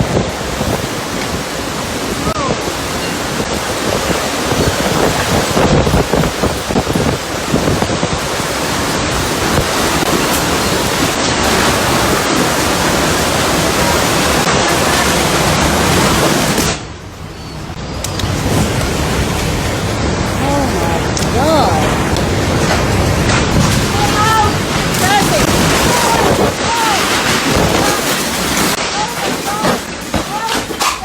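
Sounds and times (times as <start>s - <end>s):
wind buffeting microphone: 0.0s - 29.9s
heavy rain: 0.0s - 31.0s
storm wind: 0.0s - 31.0s.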